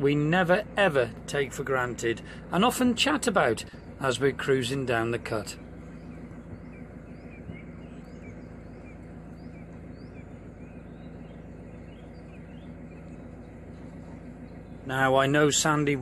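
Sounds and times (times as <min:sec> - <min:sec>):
boat engine humming: 0:00.0 - 0:16.0
small birds chirping: 0:00.1 - 0:16.0.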